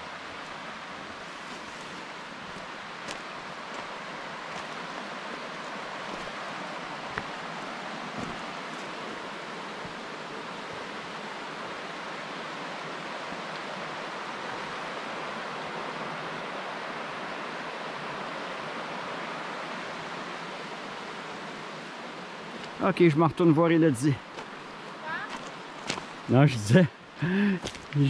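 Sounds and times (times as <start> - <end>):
river rushing over stones: 0.0 - 28.0.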